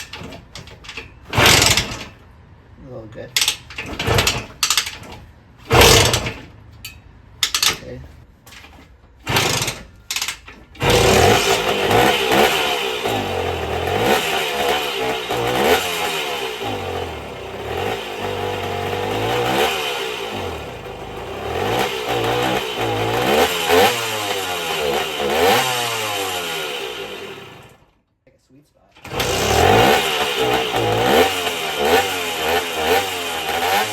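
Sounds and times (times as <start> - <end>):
two-stroke engine revving: 0.0 - 2.2, 3.4 - 6.6, 8.6 - 27.8, 29.0 - 33.9.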